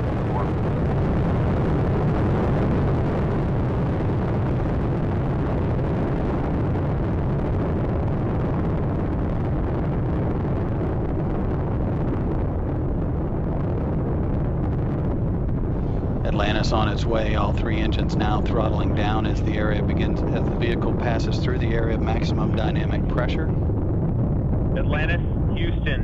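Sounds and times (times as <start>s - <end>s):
deep rocket engine roar: 0.0s - 26.0s.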